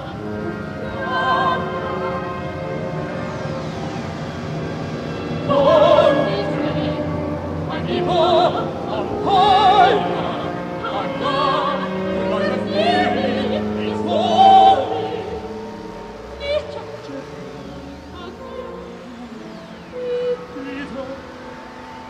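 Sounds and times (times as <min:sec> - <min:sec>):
soprano singing with vibrato: 0:00.0 - 0:03.3, 0:05.3 - 0:22.0
low orchestral tones: 0:00.0 - 0:22.0.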